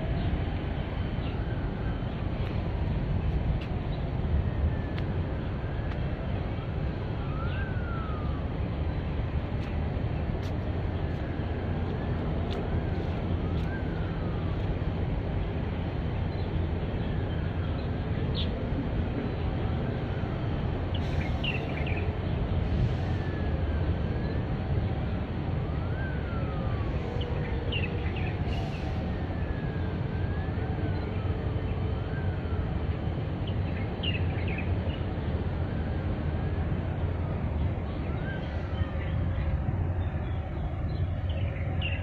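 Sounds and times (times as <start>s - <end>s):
distant siren wailing: 0.0s - 42.0s
steady low rumble: 0.0s - 42.0s.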